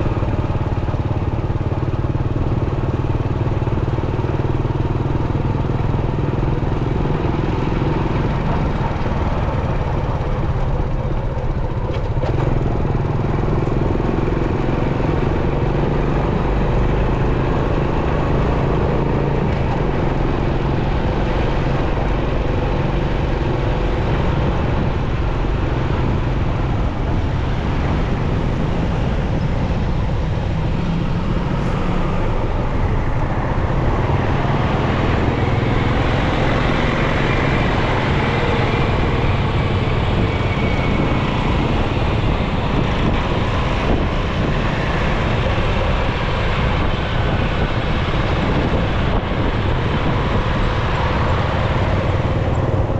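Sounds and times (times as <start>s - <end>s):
motorcycle engine running: 0.0s - 52.9s
road and traffic noise: 0.0s - 52.9s.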